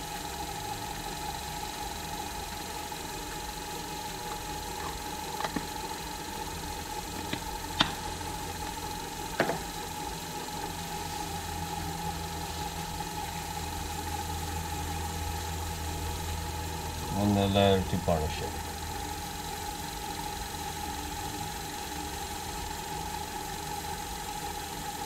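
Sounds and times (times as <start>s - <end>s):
lathe motor whine: 0.0s - 25.0s.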